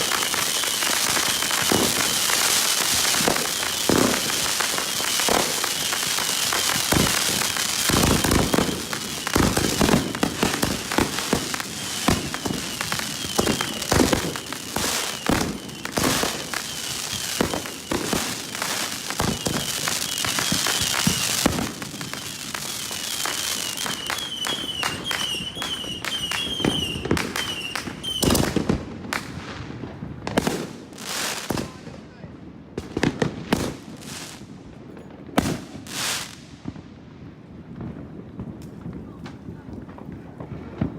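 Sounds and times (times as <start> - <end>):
fireworks bursting: 0.0 - 32.1, 32.7 - 40.9
fireworks crackling: 0.0 - 40.9.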